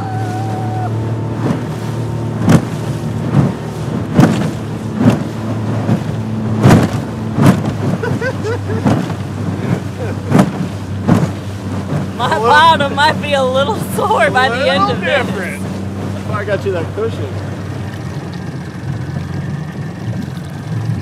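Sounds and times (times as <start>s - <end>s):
boat hull slapping on waves: 0.0s - 21.0s
outboard motor running: 0.0s - 21.0s.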